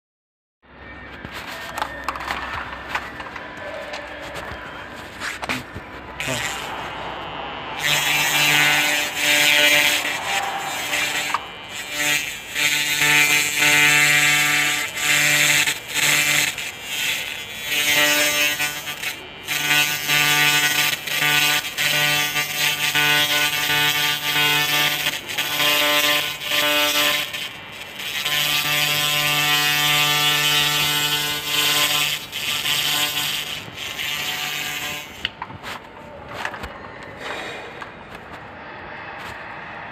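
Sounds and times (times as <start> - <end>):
laser cleaner buzzing and crackling: 1.7 - 35.9.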